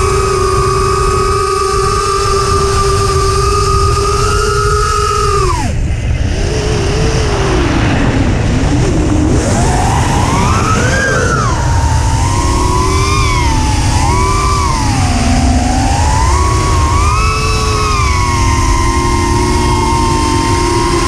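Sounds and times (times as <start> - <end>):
low wind rumble: 0.0 - 21.0
quadcopter motors whining: 0.0 - 21.0.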